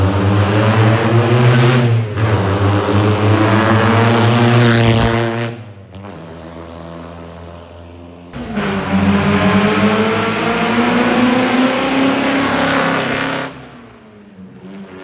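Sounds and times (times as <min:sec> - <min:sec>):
racing car engine running: 0:00.0 - 0:15.0.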